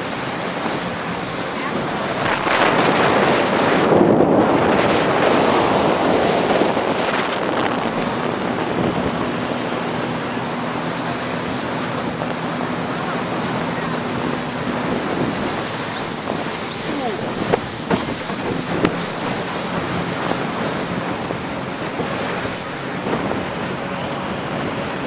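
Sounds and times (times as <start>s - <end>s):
river water rushing: 0.0s - 3.9s, 4.9s - 25.0s
boat motor hum: 0.0s - 25.0s
wind buffeting microphone: 0.0s - 25.0s.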